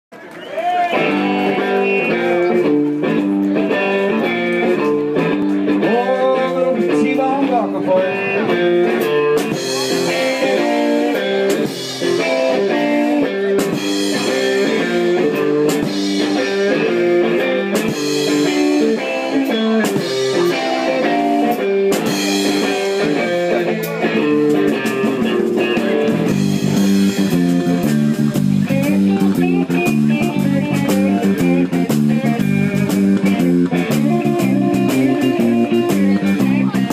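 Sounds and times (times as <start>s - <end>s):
bass guitar: 0.6s - 36.9s
guitar melodic lines: 0.8s - 36.9s.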